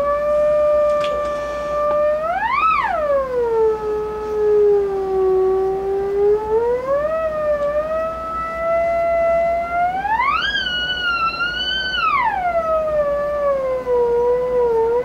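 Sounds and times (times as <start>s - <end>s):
theremin tone swooping: 0.0s - 15.0s.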